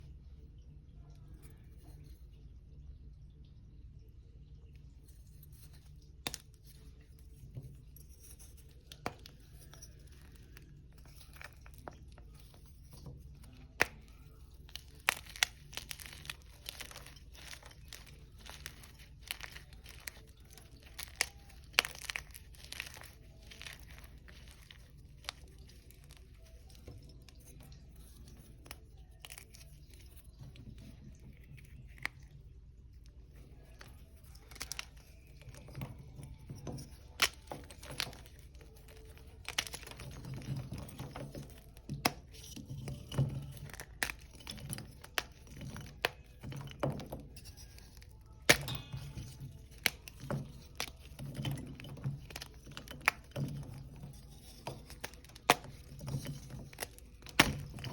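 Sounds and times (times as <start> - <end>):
chalk being crushed: 8.0 - 30.4, 33.5 - 57.9.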